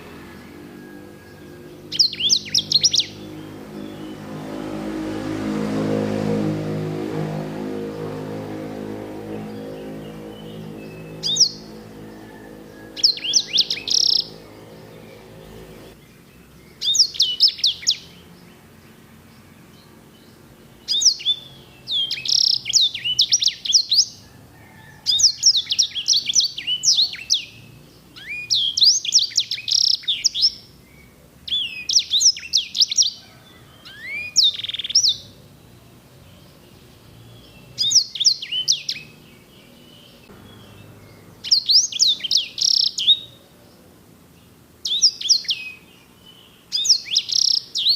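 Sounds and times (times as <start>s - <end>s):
canary singing trills: 0.0s - 43.6s, 44.8s - 47.9s.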